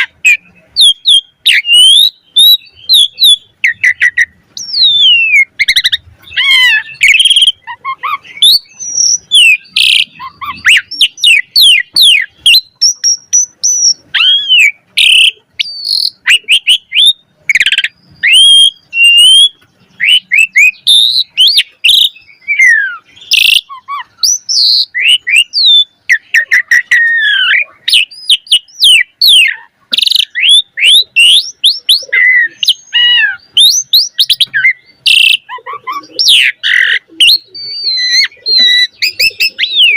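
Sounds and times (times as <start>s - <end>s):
starling singing whistles and clicks: 0.0s - 39.9s.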